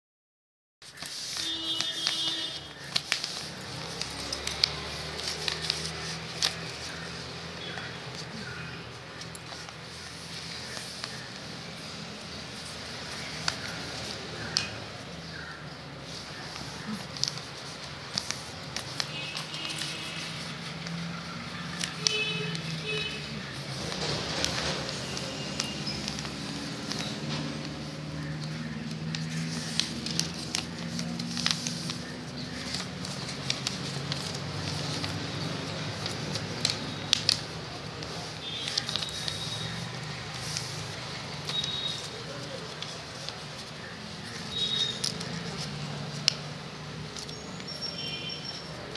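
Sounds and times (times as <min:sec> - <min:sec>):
paper crinkling and creasing: 0:00.8 - 0:48.9.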